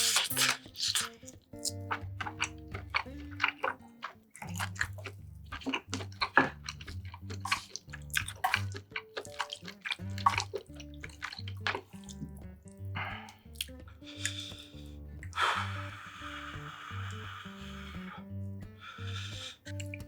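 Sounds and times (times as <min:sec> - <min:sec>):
person chewing and mouth sounds: 0:00.0 - 0:20.0
quiet background music: 0:00.0 - 0:20.0.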